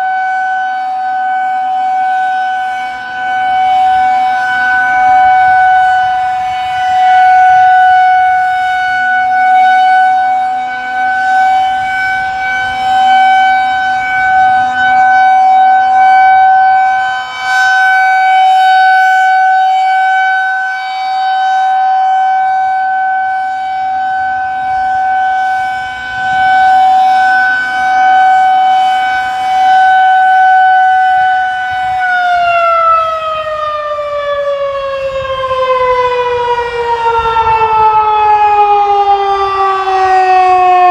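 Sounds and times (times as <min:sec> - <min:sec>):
rotating siren alert tone: 0:00.0 - 0:40.9.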